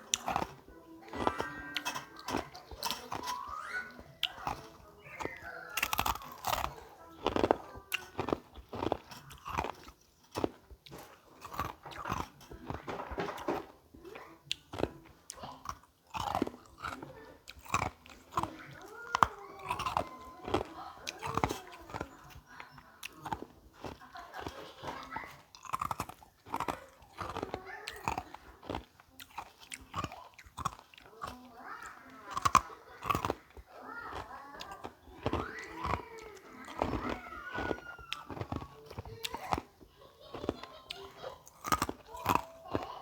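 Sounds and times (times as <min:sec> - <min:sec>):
ice crunching when chewed: 0:00.0 - 0:43.0.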